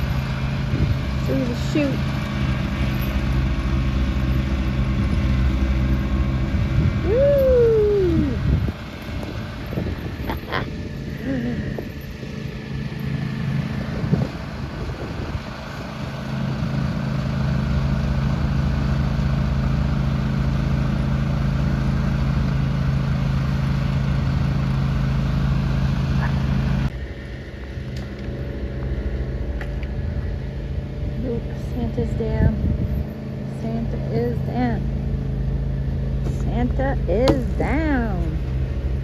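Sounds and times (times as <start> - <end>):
snowblower engine running: 0.0 - 39.0.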